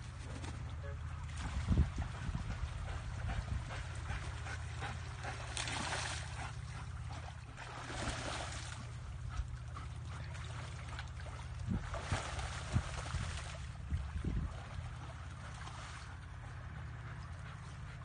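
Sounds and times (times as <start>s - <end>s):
steady low hum: 0.0s - 18.0s
water splashing as dog swims: 0.0s - 18.0s.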